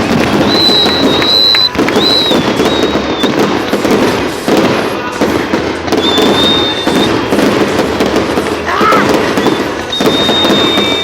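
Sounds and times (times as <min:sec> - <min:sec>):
firework whistle: 0:00.0 - 0:05.0, 0:05.8 - 0:11.0
fireworks crackling and popping: 0:00.0 - 0:11.0.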